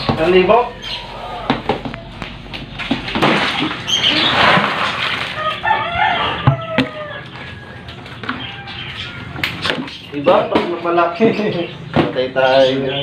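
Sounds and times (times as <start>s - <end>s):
bird calling with falling cries: 0.0s - 2.8s, 3.8s - 13.0s
rough rustling and scraping: 0.0s - 11.0s.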